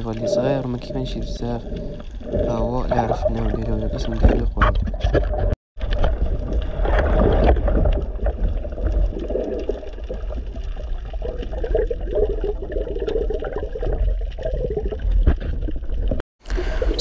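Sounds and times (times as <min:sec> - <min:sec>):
muffled underwater water gurgling: 0:00.0 - 0:17.0.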